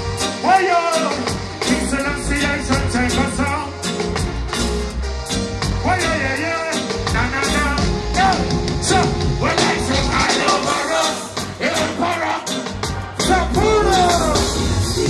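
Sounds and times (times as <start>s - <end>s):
live reggae band: 0.0s - 15.0s.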